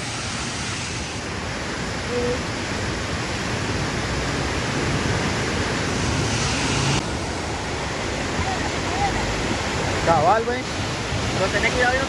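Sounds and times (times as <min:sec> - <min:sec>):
flooded river rushing: 0:00.0 - 0:12.0.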